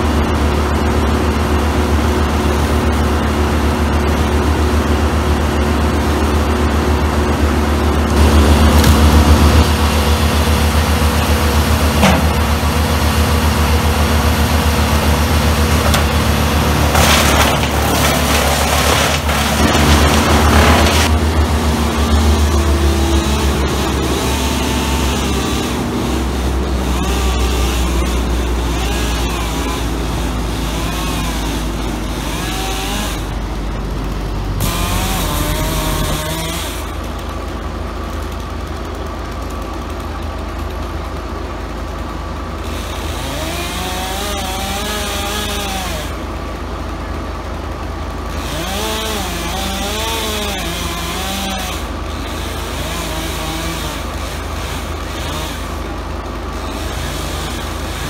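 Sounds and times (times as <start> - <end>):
chainsaw cutting wood: 0.0 - 40.9, 42.6 - 58.0.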